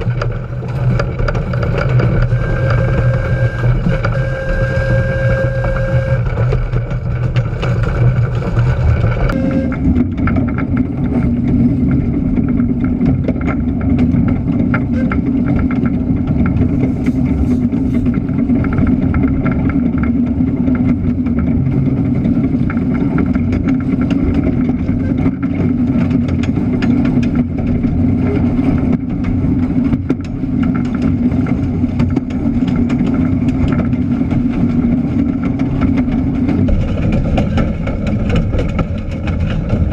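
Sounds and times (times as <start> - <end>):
small train running on track: 0.0 - 39.9.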